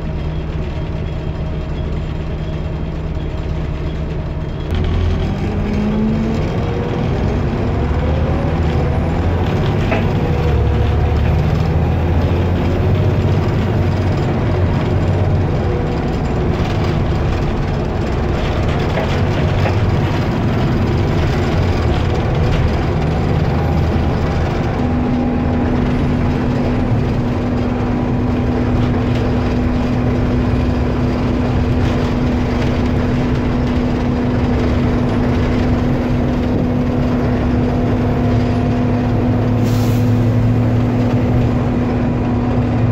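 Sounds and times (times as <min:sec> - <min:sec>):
bus engine roar: 0:00.0 - 0:42.9
steady whine: 0:00.0 - 0:42.9.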